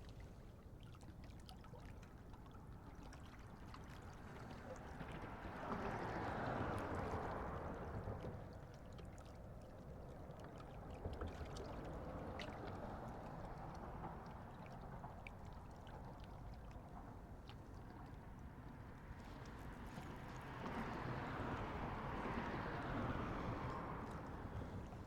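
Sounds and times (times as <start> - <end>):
water lapping at shore: 0.0 - 25.0.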